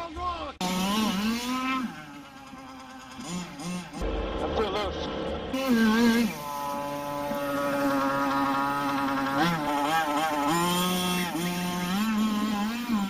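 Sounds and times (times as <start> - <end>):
small two-stroke engine buzzing: 0.6 - 13.0.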